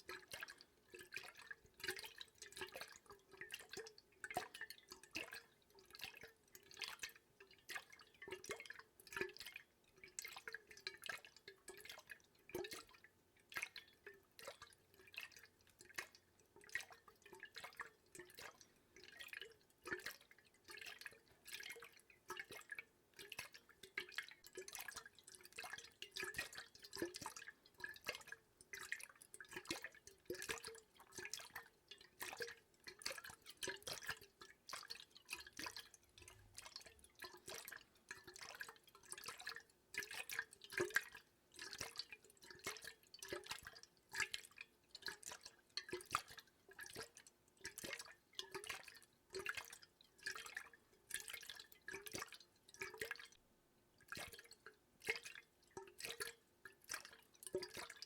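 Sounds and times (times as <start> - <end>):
water drops plinking into water: 0.0 - 53.4, 54.0 - 58.0.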